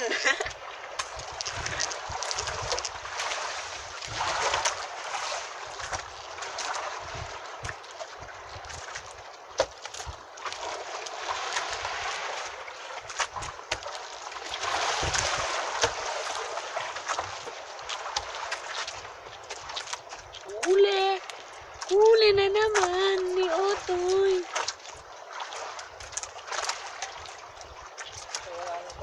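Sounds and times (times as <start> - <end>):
water washing around boat: 0.0 - 29.0
wind: 0.0 - 29.0.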